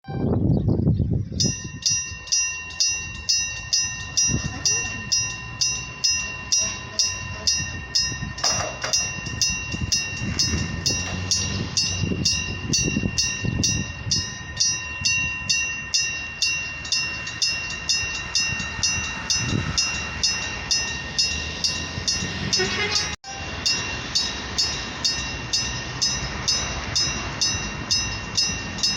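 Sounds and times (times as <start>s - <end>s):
train rumbling: 0.1s - 28.9s
level crossing warning bell: 1.4s - 28.9s.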